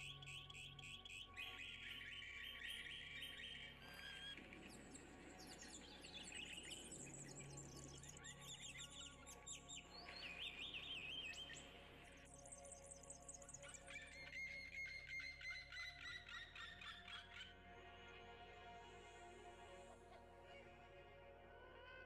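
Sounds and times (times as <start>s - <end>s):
songbirds chirping: 0.0s - 21.3s.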